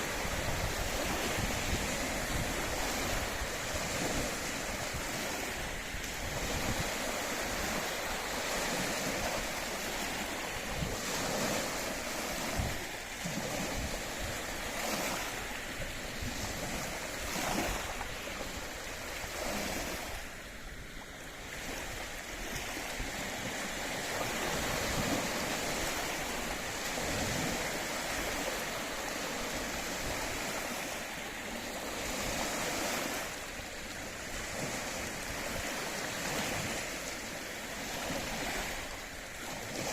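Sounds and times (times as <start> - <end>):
wind buffeting microphone: 0.0 - 37.0
small waves washing in: 0.0 - 39.9.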